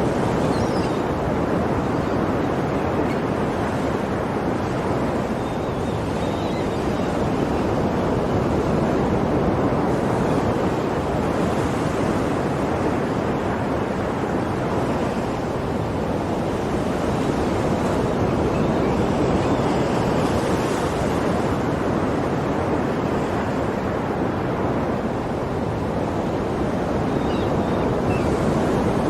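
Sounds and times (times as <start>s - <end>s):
ocean waves breaking: 0.0s - 29.0s.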